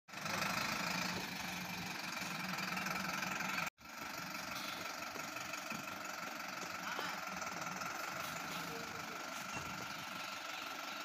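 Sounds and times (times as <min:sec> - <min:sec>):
truck engine idling: 0:00.1 - 0:11.0.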